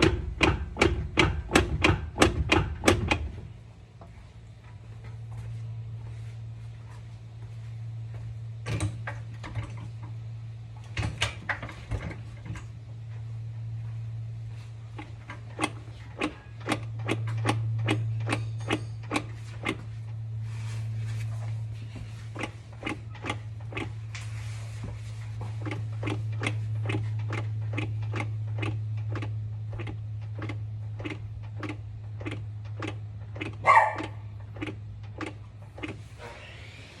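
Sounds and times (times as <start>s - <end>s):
low hum: 3.1s - 37.0s.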